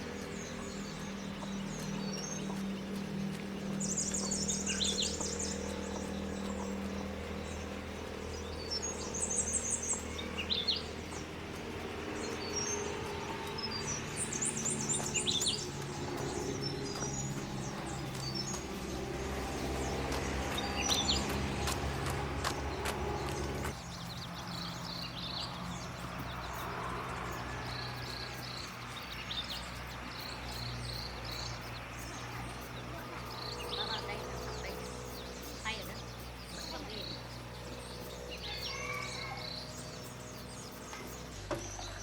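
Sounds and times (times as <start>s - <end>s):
songbird singing trilled phrases: 0.0s - 21.3s, 23.7s - 42.0s
engine humming: 0.0s - 42.0s.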